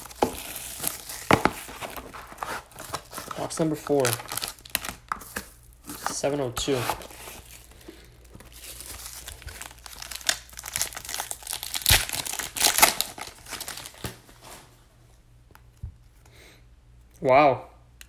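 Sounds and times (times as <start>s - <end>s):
plastic shrink wrap crinkling: 0.0s - 14.7s.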